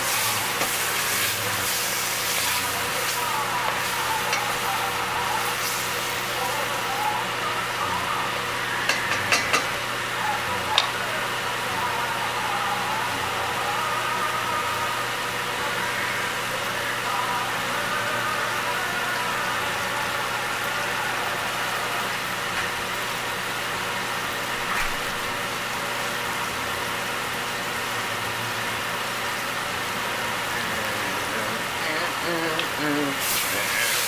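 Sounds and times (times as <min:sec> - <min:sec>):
kitchen fan humming: 0:00.0 - 0:34.0.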